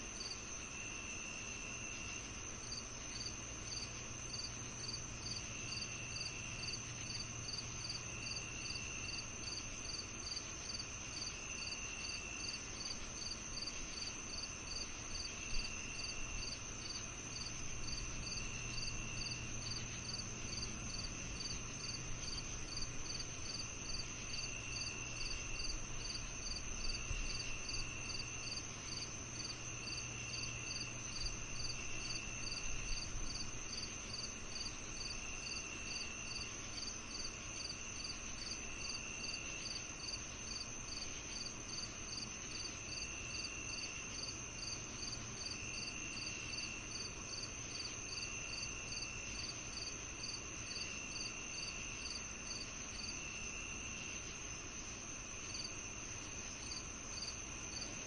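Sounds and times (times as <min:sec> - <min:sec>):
continuous high insect trill: 0:00.0 - 0:58.0
crickets chirping: 0:00.0 - 0:58.0
lower insect trill: 0:00.0 - 0:58.0.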